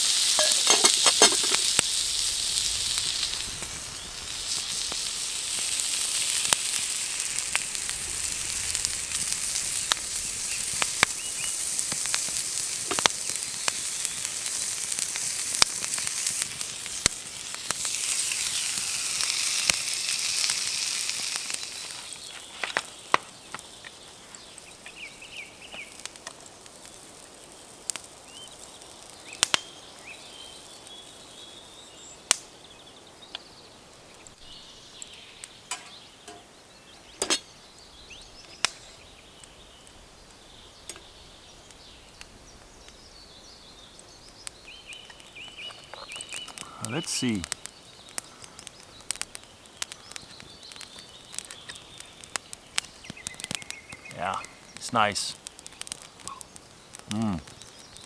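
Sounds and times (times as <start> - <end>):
campfire crackling: 0.0 - 58.0
steak sizzling in oil: 0.0 - 58.0.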